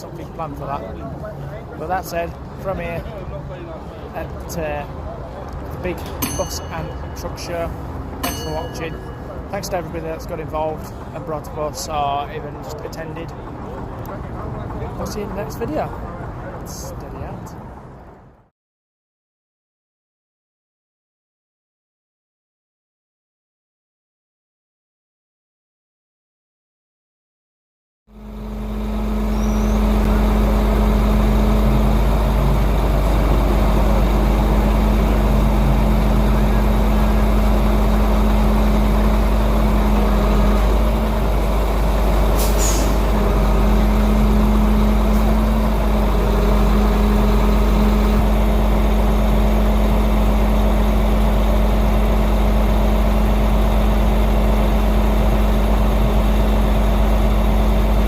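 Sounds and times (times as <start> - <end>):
diesel engine idling: 0.0 - 17.0, 28.1 - 58.0.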